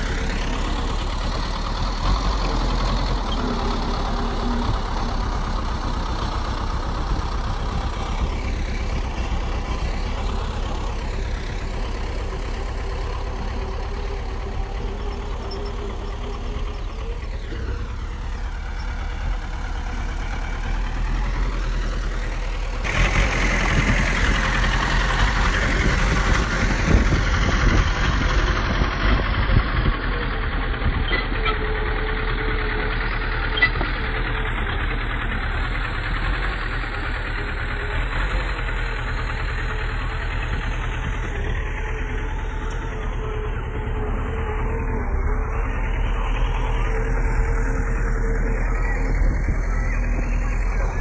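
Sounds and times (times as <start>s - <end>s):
bulldozer diesel engine running: 0.0s - 51.0s
tracks clanking: 0.0s - 51.0s.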